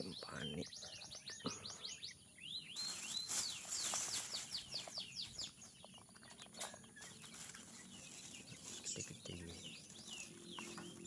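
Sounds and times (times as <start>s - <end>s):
quail chicks peeping: 0.0s - 11.0s.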